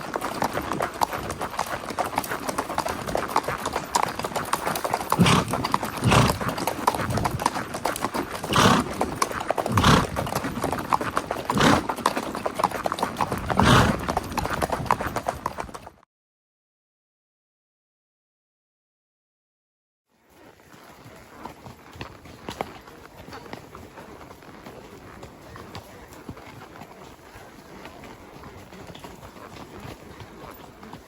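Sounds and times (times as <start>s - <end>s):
horse hooves clip-clopping: 0.0s - 16.0s, 20.1s - 31.0s.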